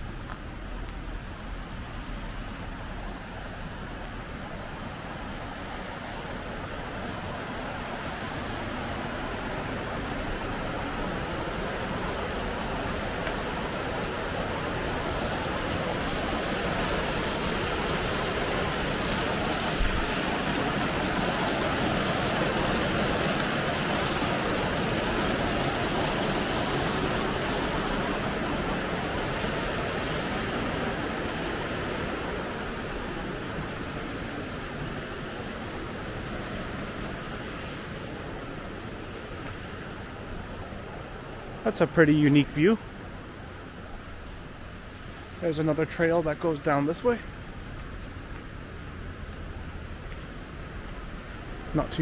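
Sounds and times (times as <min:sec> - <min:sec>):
water rushing over rocks: 0:00.0 - 0:52.0.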